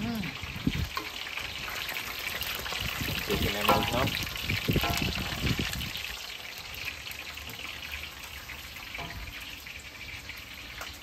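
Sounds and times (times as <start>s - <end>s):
chicken sizzling in frying oil: 0.0s - 11.0s.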